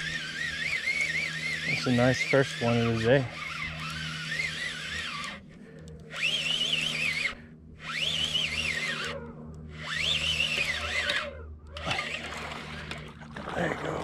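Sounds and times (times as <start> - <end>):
fishing reel gears whining: 0.0 - 14.0
steady low hum: 0.0 - 14.0.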